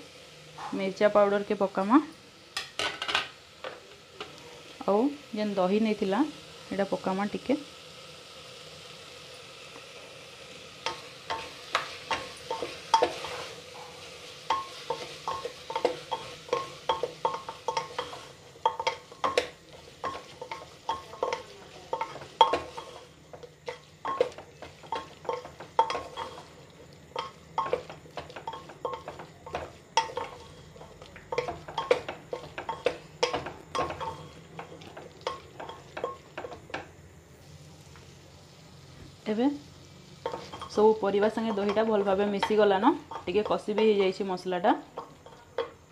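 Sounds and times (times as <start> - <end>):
light sizzle: 0.0 - 45.9.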